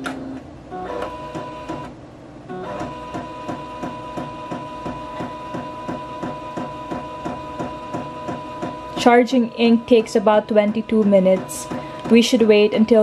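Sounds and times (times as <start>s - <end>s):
printer mechanical whine: 0.0s - 13.0s
printer ticking: 0.7s - 1.9s, 2.5s - 13.0s.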